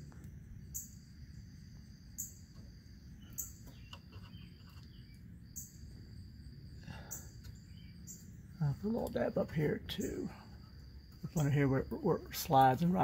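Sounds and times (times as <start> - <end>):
insects trilling: 0.0 - 13.0
sharp insect chirp: 0.0 - 13.0.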